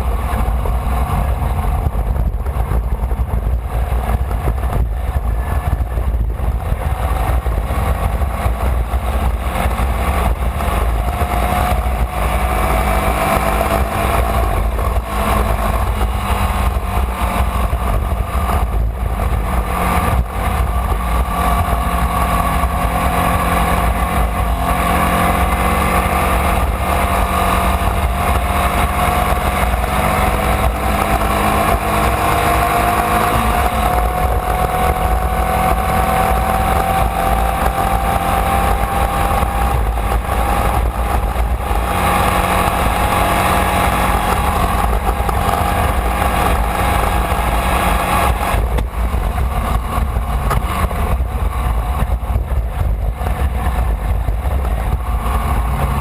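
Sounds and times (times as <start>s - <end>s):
constant rushing noise: 0.0s - 56.0s
race car engine running hard: 0.0s - 56.0s.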